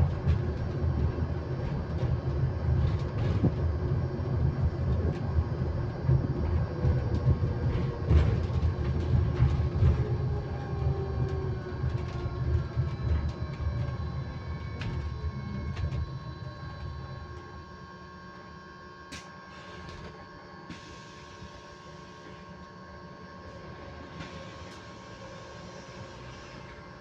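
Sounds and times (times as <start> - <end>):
electric bus motor whine: 0.0 - 27.0.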